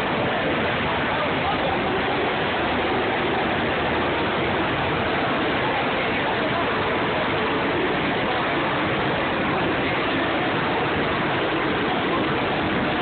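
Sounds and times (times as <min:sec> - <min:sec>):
crowd din in large hall: 0:00.0 - 0:13.0.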